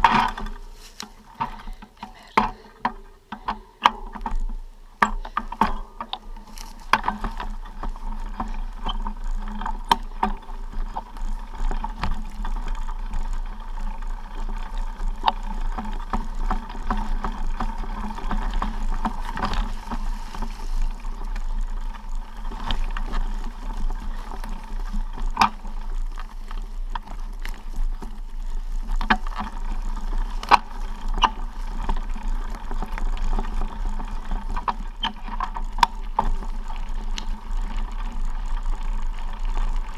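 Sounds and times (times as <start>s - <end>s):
footsteps on dry leaves and dirt: 0.0s - 2.6s, 6.2s - 39.9s
wind rumble and rustle: 0.0s - 39.9s.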